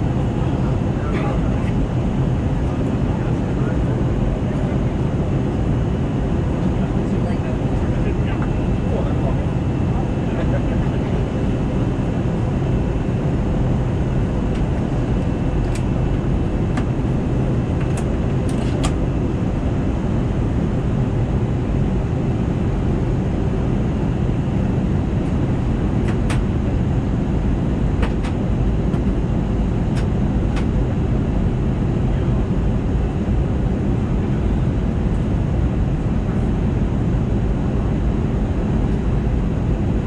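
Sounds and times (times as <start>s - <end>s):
aircraft cabin engine and airflow: 0.0s - 40.0s.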